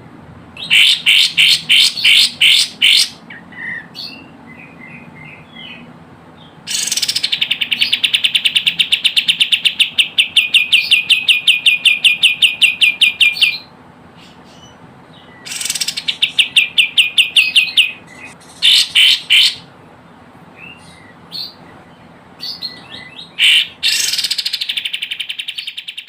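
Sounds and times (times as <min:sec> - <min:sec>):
short bird calls: 0:00.6 - 0:19.7, 0:22.4 - 0:26.0
bird singing rapid trills: 0:00.6 - 0:26.0.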